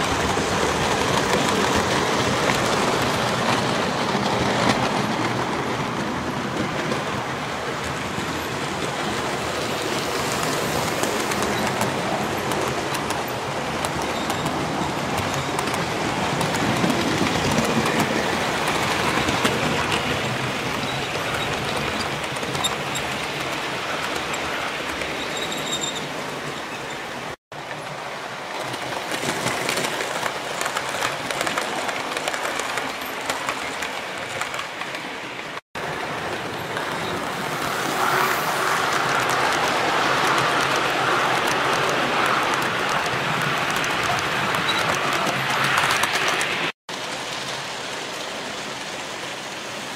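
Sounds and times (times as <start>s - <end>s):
model train wheels rolling on rails: 0.0s - 49.9s.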